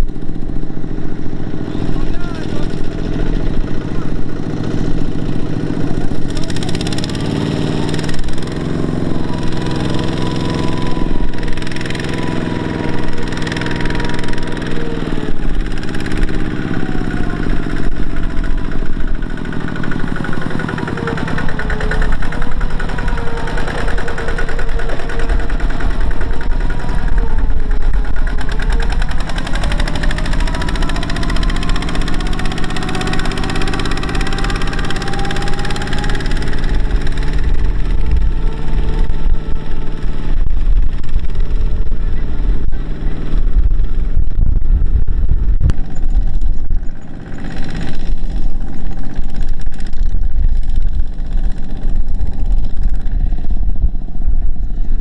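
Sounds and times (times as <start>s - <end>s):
diesel engine running hard: 0.0s - 55.0s.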